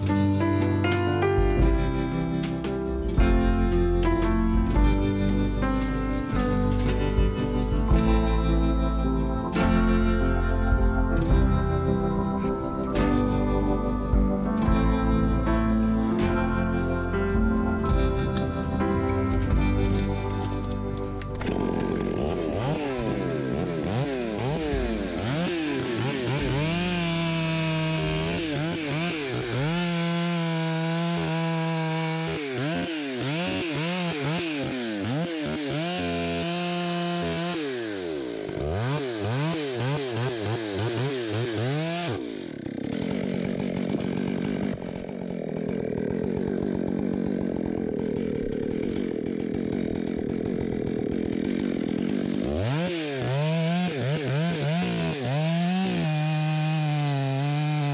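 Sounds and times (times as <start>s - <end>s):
chainsaw cutting wood revving: 0.0s - 57.9s.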